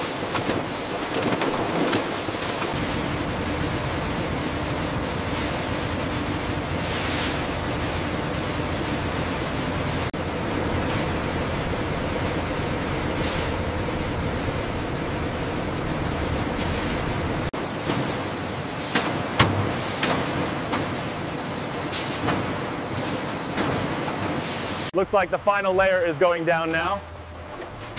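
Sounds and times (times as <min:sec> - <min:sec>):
industrial machinery hum: 0:00.0 - 0:27.9.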